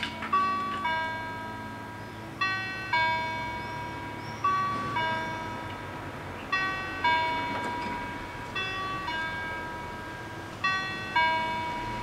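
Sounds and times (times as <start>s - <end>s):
crossing bells ringing ding-dong: 0.0s - 12.0s.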